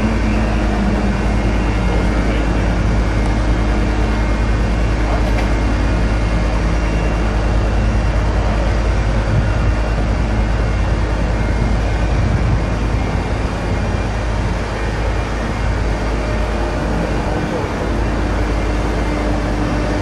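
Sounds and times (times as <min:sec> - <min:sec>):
engine hum: 0:00.0 - 0:20.0
heavy machinery rumbling: 0:00.0 - 0:20.0.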